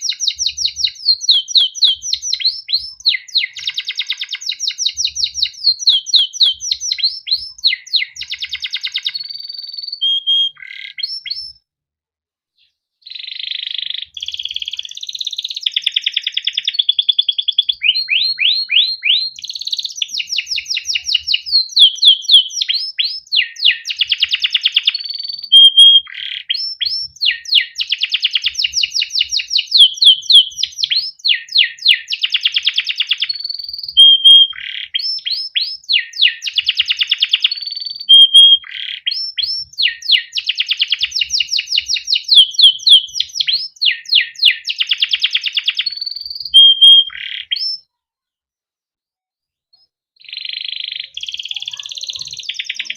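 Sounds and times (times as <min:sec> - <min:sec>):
canary singing trills: 0:00.0 - 0:11.6, 0:12.6 - 0:47.9, 0:49.8 - 0:52.9.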